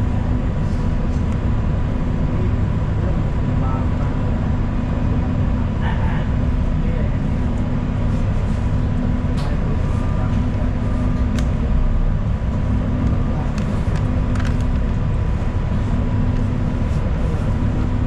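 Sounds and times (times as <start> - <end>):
bus engine and road drone: 0.0 - 18.0
thin steady whine: 0.0 - 18.0.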